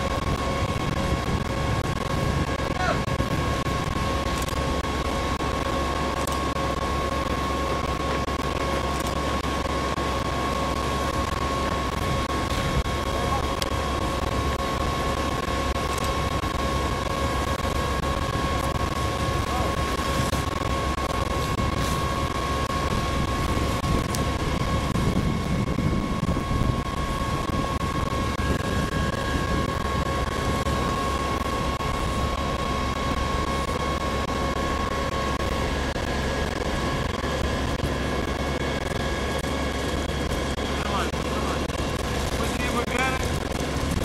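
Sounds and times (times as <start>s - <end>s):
pump engine running with whine: 0.0s - 44.0s.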